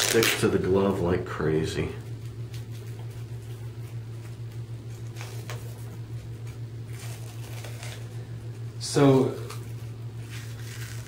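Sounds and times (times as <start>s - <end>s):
paper tape crackling: 0.0s - 0.7s, 2.1s - 11.0s
low electrical hum: 0.0s - 11.0s.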